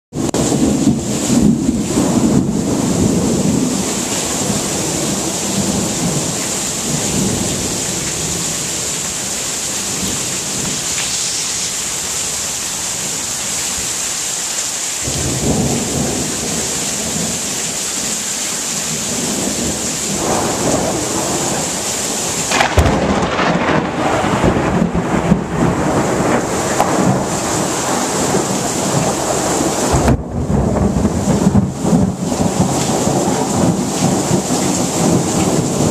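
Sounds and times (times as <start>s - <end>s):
steady rain: 0.1s - 35.9s
sharp crack of close thunder: 0.2s - 12.0s, 15.0s - 18.2s, 18.8s - 35.9s
rolling thunder: 0.2s - 12.2s, 15.0s - 18.2s, 18.8s - 35.9s.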